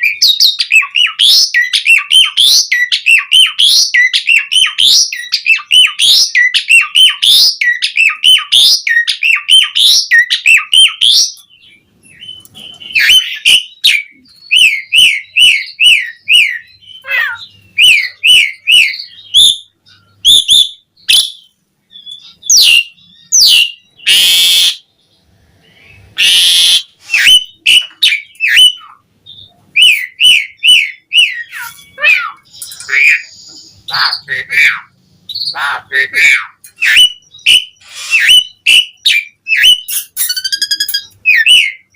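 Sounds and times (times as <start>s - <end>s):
starling whistled song: 0.0s - 11.4s, 12.1s - 24.9s, 25.8s - 34.2s, 36.7s - 41.9s
harsh rasping bird calls: 0.0s - 41.9s.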